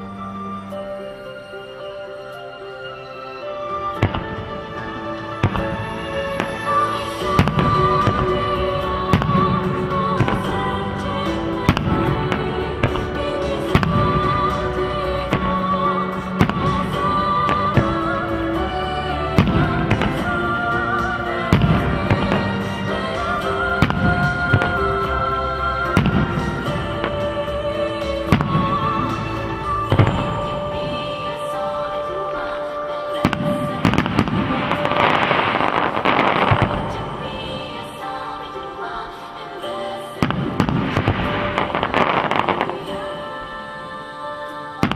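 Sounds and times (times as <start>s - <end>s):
loud music: 0.0s - 44.9s
fireworks bangs: 3.9s - 38.4s, 40.2s - 43.7s
fireworks crackling and popping: 3.9s - 38.4s, 40.2s - 43.6s.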